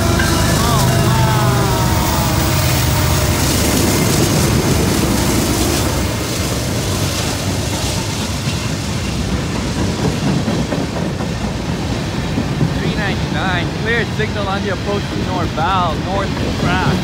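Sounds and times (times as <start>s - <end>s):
freight train passing: 0.0s - 17.0s.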